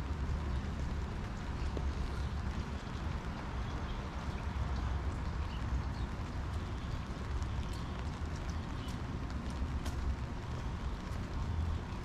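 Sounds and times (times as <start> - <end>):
raindrop ticks: 0.0 - 12.0
steady rain hiss: 0.0 - 12.0.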